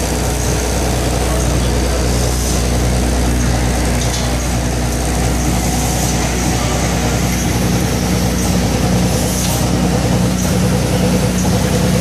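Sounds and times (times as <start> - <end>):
machine hum and buzz: 0.0 - 12.0.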